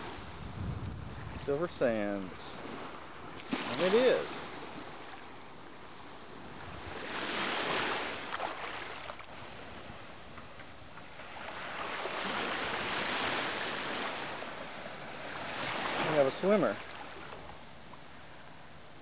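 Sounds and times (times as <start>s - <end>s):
small waves washing on sand: 0.0s - 18.7s.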